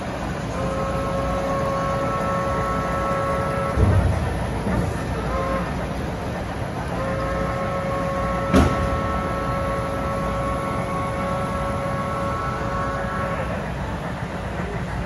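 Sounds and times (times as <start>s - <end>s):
model steam locomotive whistle: 0.2s - 5.9s, 6.7s - 14.7s.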